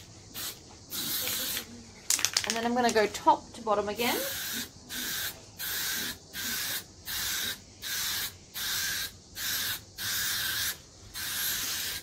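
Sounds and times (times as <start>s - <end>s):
spray paint can hissing: 0.0s - 1.7s, 4.0s - 12.0s.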